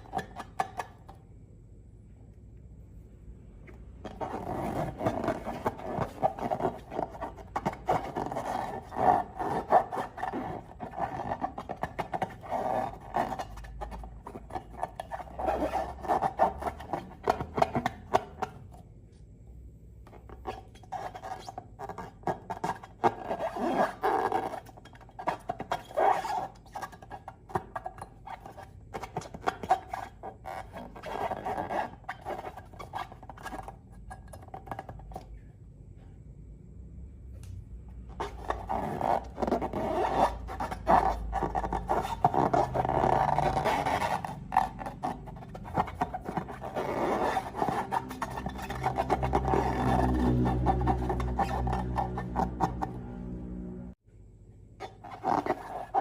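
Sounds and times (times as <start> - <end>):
rubber balloons squeaky rubbing: 0.0 - 1.0, 4.0 - 18.8, 20.1 - 35.3, 38.0 - 53.2, 54.8 - 56.0.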